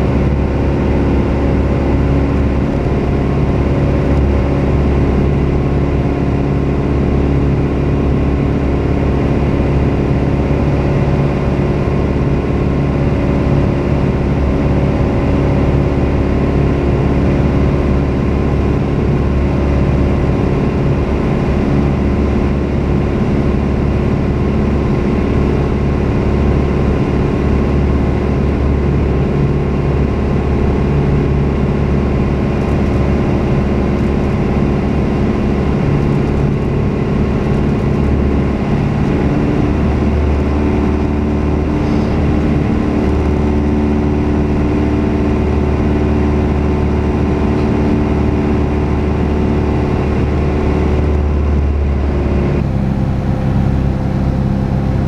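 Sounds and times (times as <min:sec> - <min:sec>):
propeller plane engine running: 0:00.0 - 0:55.0.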